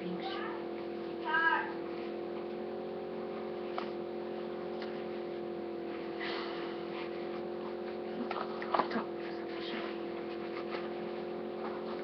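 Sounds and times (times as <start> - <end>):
steady multi-tone hum: 0.0 - 12.0.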